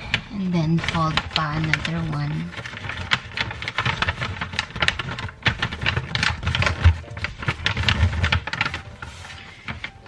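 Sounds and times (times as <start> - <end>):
wrapping paper crinkling: 0.0 - 10.0.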